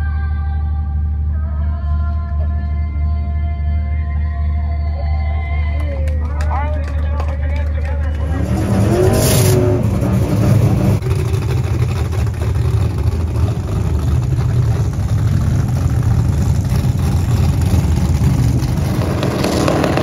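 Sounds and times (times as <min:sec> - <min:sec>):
race car engine rumbling: 0:00.0 - 0:20.0.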